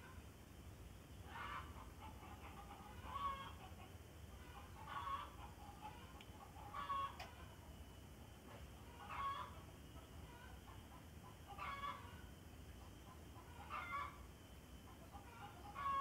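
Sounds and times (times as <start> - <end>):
chicken clucking: 1.3 - 7.7, 8.5 - 14.2, 14.8 - 16.0.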